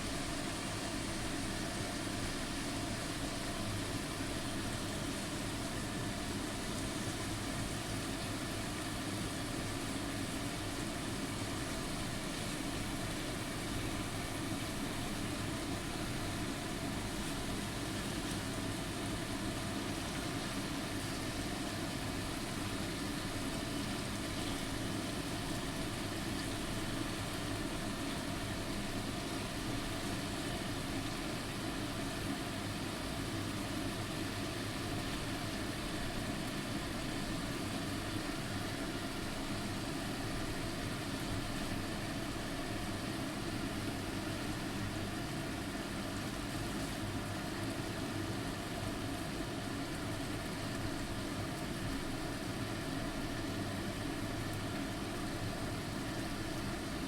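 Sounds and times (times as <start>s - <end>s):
fan or motor hum and hiss: 0.0s - 57.0s.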